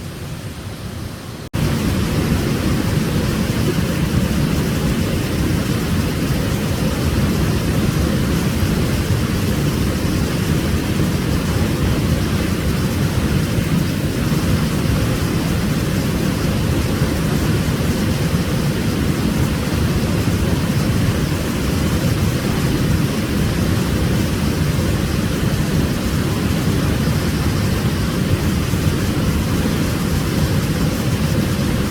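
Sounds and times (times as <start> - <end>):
waterfall crashing: 0.0 - 31.9.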